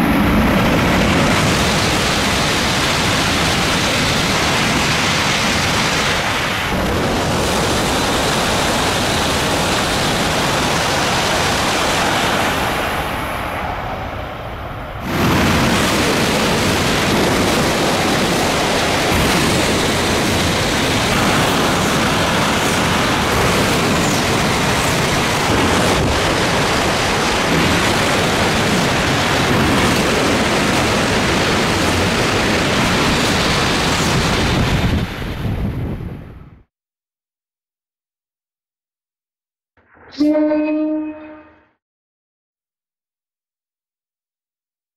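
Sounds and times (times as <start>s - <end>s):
high-speed train passing: 0.0s - 36.6s.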